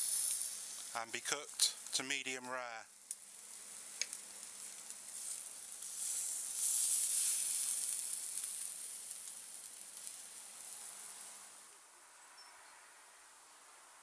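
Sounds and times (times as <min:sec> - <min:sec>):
steak sizzling on charcoal: 0:00.0 - 0:11.8.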